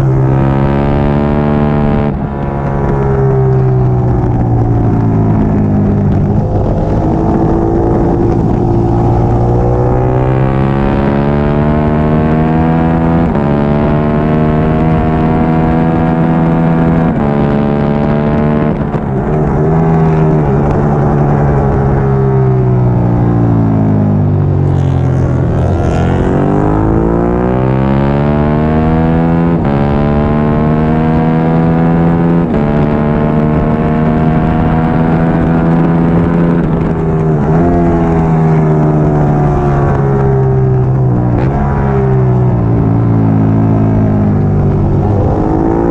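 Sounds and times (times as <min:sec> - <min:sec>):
motorcycle engine at racing speed: 0:00.0 - 0:45.9.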